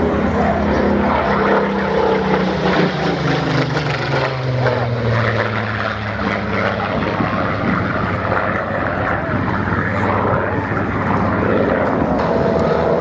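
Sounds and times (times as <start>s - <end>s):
propeller plane passing overhead: 0.0s - 13.0s.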